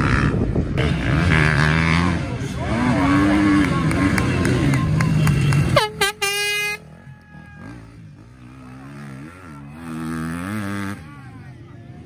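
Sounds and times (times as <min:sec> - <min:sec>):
distant motorcycle engine revving: 0:00.0 - 0:11.6
motorcycle engine running loud: 0:00.0 - 0:12.0.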